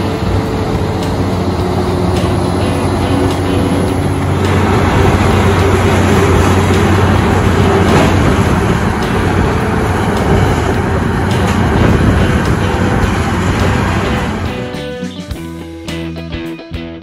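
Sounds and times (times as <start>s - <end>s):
diesel engine drone: 0.0s - 16.0s.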